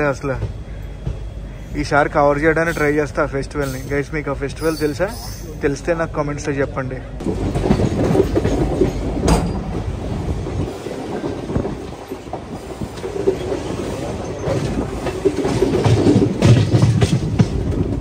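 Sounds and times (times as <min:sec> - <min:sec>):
clickety-clack of rail joints: 0:00.0 - 0:05.6, 0:07.2 - 0:18.0
train wheels rumbling: 0:00.0 - 0:18.0.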